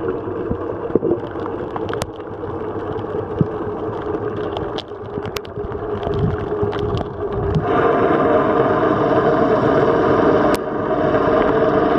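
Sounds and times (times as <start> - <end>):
underwater mechanical drone: 0.0 - 11.9.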